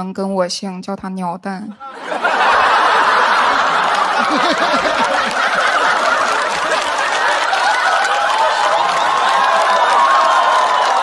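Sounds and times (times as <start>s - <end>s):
audience laughing loudly: 1.8s - 11.0s.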